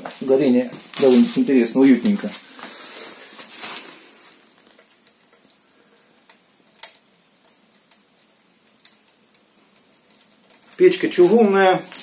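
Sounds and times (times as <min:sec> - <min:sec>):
faint fire hiss: 0:00.0 - 0:12.0
firewood crackling and popping: 0:00.0 - 0:12.0.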